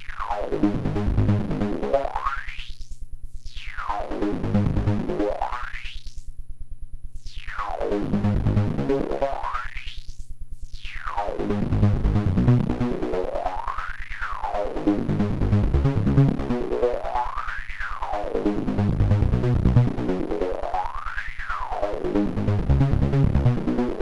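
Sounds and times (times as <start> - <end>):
low synth pulsing: 0.0 - 2.2, 3.4 - 5.6, 7.2 - 9.5, 10.7 - 24.0
detuned synthesizer drone with filter sweep: 0.0 - 6.2, 7.2 - 24.0.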